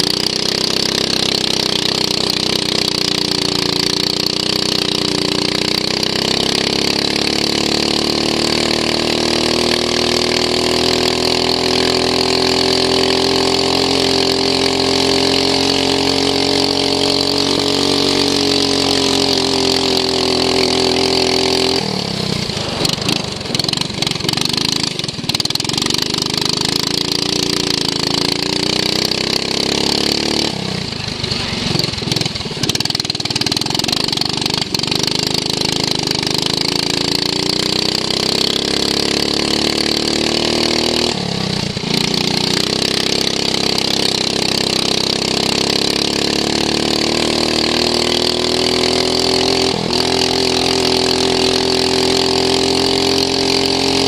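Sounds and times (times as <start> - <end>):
racing lawn mower engine: 0.0 - 54.0.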